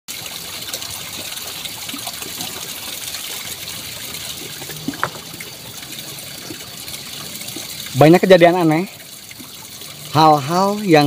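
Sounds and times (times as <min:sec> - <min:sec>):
water trickling: 0:00.1 - 0:11.0.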